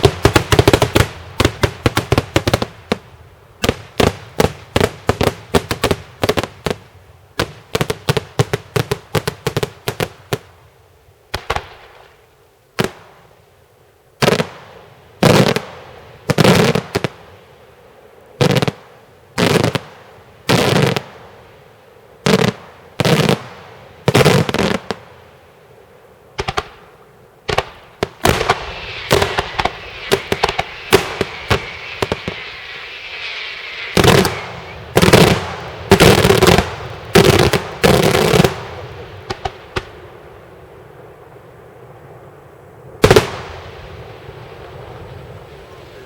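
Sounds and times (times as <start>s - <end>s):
firework hiss: 0.0s - 10.5s, 14.2s - 41.4s, 42.9s - 46.0s
firework crackling pops: 0.0s - 10.6s, 11.3s - 13.3s, 14.2s - 17.5s, 18.4s - 21.6s, 22.2s - 25.2s, 26.4s - 40.8s, 43.0s - 46.0s.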